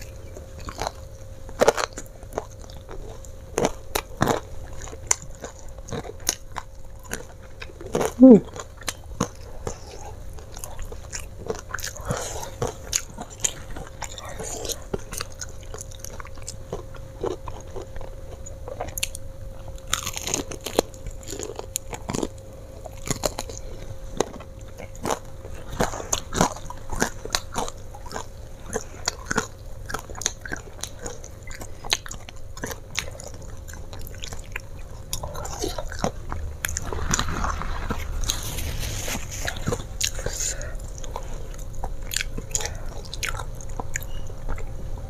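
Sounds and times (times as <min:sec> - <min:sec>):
crunchy chewing of fried chicken: 0:00.0 - 0:45.0
faint steady hum: 0:00.0 - 0:45.0.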